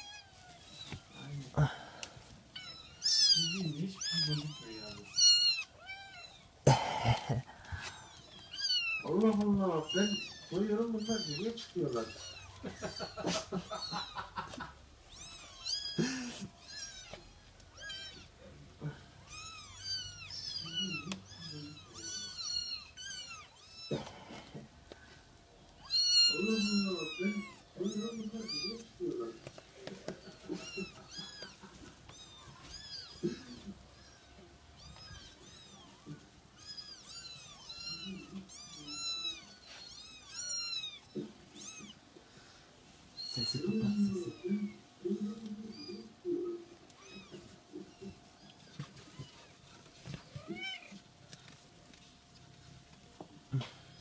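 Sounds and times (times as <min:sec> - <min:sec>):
kittens mewing: 0:00.0 - 0:52.8.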